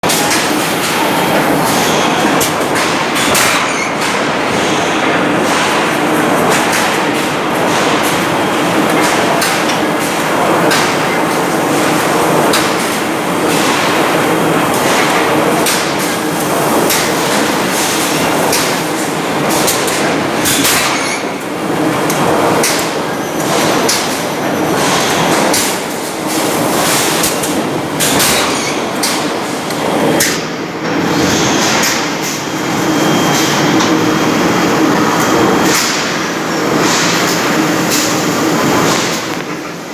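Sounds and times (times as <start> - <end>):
forging machine clatter: 0.0 - 39.7.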